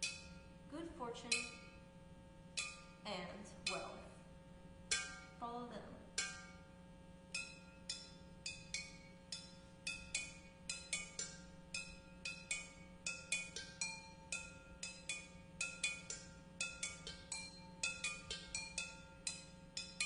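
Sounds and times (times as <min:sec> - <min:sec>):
flowerpots struck with sticks: 0:00.0 - 0:00.4, 0:01.2 - 0:01.8, 0:02.5 - 0:04.1, 0:04.9 - 0:05.4, 0:06.1 - 0:06.6, 0:07.3 - 0:20.0.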